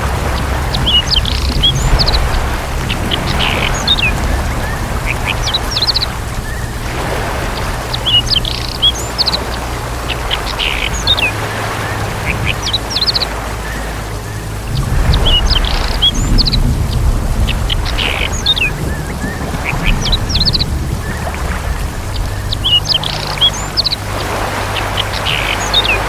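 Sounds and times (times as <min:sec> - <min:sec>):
birds chirping and whistling: 0:00.0 - 0:26.0
low rumble and hiss: 0:00.0 - 0:26.0.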